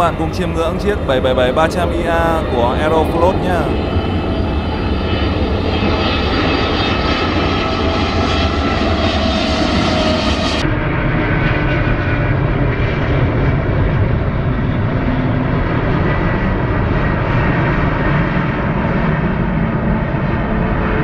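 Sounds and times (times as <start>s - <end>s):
faint engine whine: 0.0s - 21.0s
jet engines rumbling: 0.0s - 21.0s.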